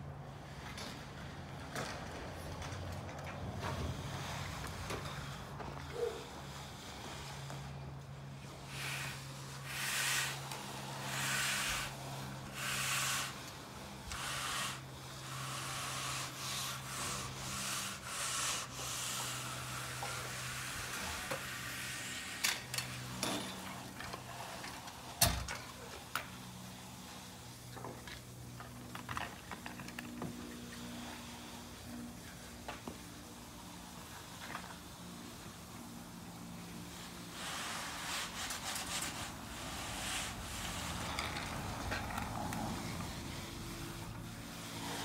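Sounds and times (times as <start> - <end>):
float rasping over concrete: 3.1 - 45.0.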